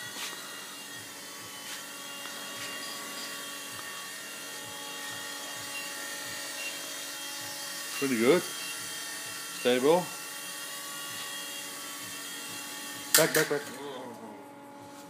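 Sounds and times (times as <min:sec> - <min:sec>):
toy helicopter rotors whining: 0:00.0 - 0:14.0.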